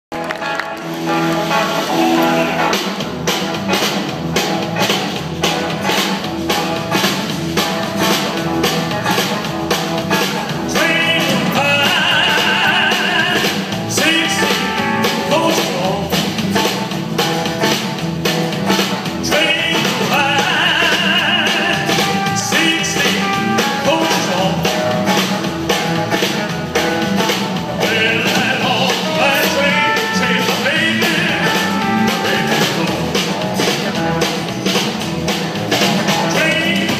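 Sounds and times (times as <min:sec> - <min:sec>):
high lead guitar line: 0:00.1 - 0:36.9
rock and roll band playing: 0:00.1 - 0:36.9.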